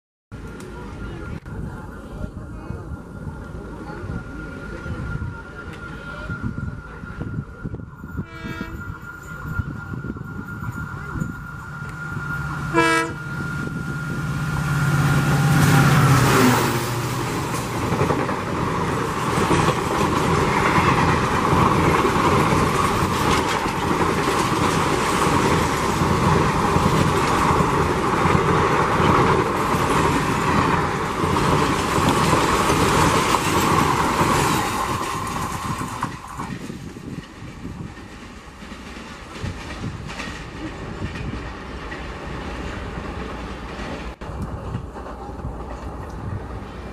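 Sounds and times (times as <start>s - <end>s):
locomotive engine drone: 0.4s - 46.9s
train wheels on rails: 0.4s - 46.9s.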